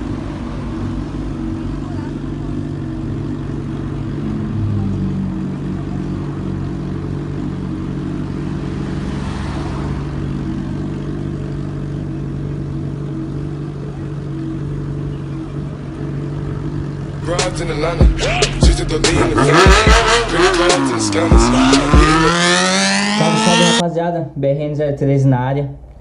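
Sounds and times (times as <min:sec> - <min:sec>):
vehicle engine running: 0:00.0 - 0:23.8.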